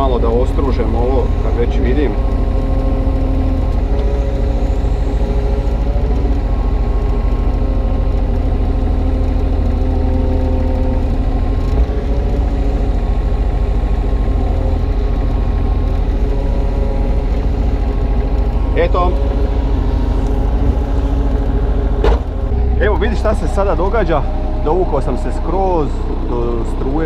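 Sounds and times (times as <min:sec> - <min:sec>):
excavator diesel engine running: 0:00.0 - 0:27.0
hydraulic whining: 0:00.0 - 0:27.0.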